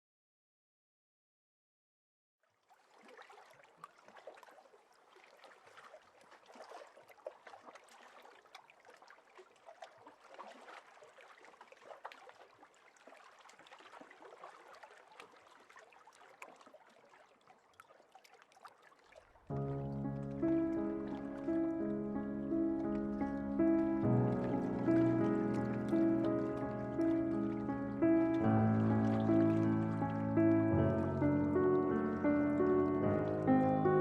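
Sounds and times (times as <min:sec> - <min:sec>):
water lapping and trickling: 0:02.4 - 0:34.0.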